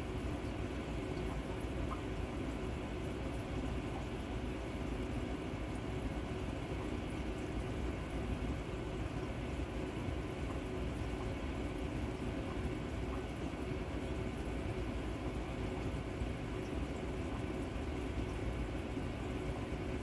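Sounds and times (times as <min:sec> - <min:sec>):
faint hum: 0:00.0 - 0:20.0
rushing aquarium water: 0:00.0 - 0:20.0.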